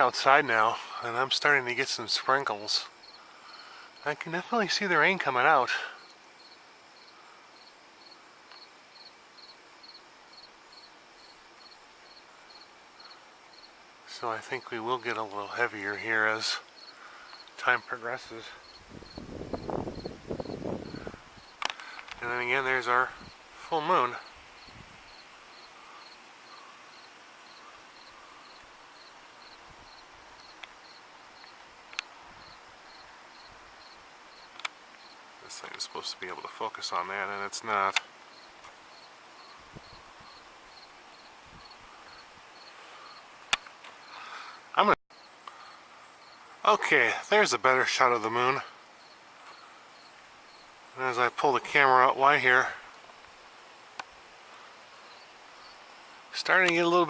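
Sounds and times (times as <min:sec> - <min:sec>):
cricket chirping: 0:00.0 - 0:51.2, 0:52.6 - 0:57.0
background hiss: 0:00.0 - 0:57.0.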